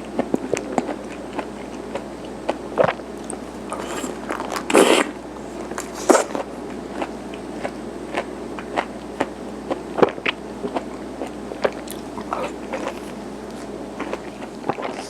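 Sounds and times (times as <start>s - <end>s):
chewing sticky food: 0.0s - 15.0s.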